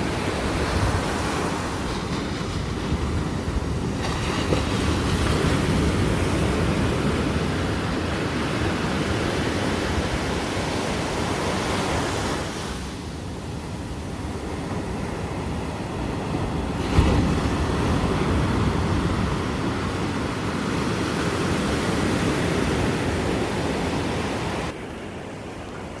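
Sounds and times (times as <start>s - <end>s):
wind buffeting microphone: 0.0s - 24.8s
sea surf crashing on beach: 0.0s - 26.0s.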